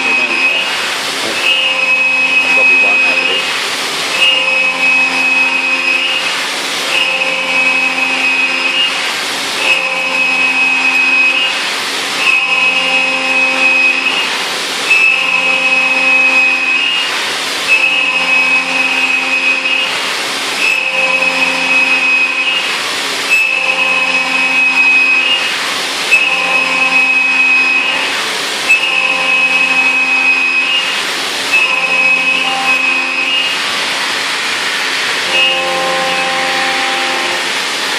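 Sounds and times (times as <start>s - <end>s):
milling machine cutting whine: 0.0s - 37.9s.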